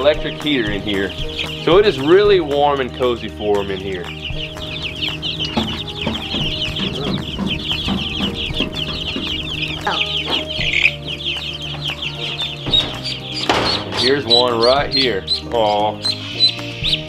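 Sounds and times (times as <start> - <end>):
chicks and ducklings peeping: 0.1 - 17.0
steady low hum: 3.3 - 17.0.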